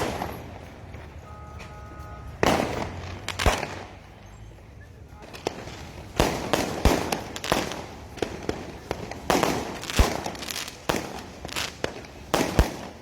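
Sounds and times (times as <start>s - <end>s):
fireworks banging and crackling: 0.0s - 13.0s.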